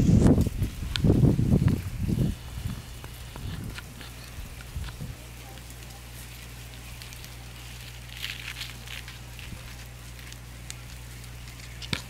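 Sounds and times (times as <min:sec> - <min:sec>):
dry leaves crackling: 0:00.0 - 0:12.0
steady low hum: 0:00.0 - 0:12.0.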